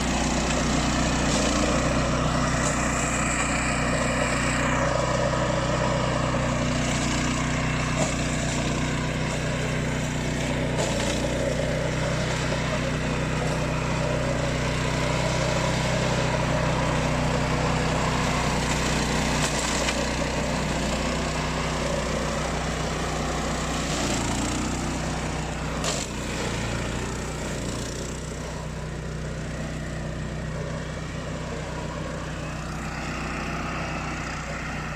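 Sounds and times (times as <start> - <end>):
flail mower engine humming: 0.0 - 34.9.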